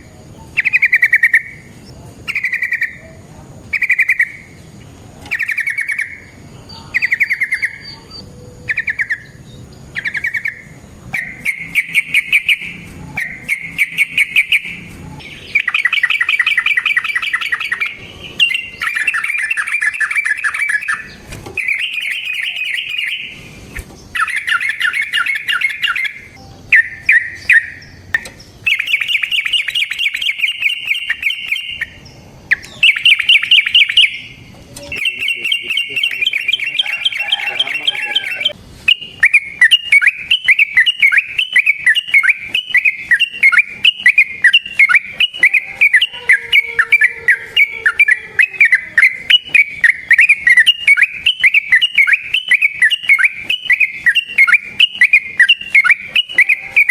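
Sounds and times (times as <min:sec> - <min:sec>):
bird chattering trills: 0:00.0 - 0:56.9.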